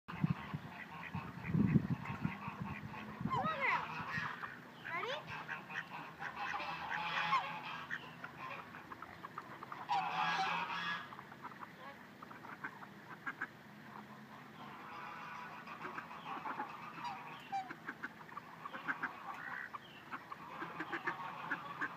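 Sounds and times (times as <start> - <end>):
ducks and swans honking: 0.1 - 21.9.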